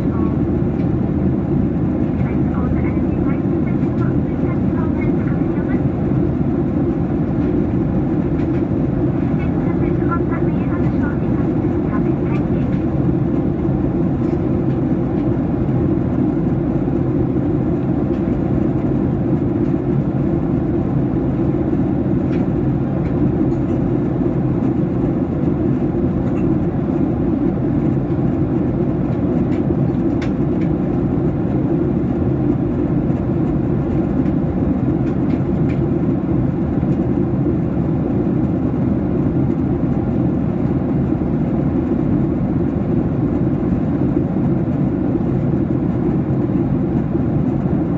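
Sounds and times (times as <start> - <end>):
airplane cabin engine noise: 0.0 - 47.9.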